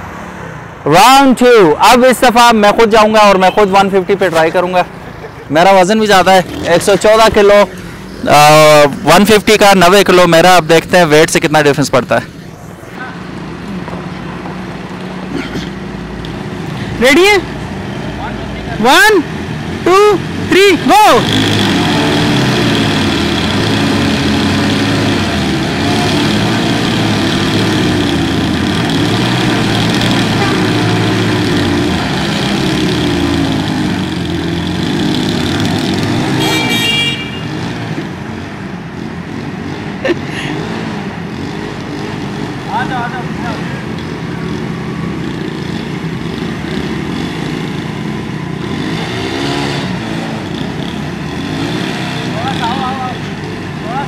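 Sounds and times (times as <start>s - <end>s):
motorcycle engines running hard: 1.0s - 54.0s.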